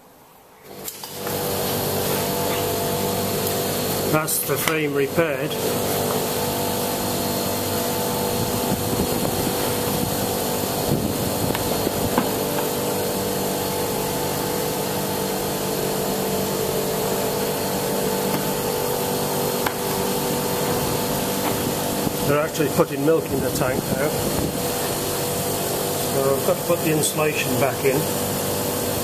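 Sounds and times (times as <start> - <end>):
dairy machinery humming: 0.7 - 29.0.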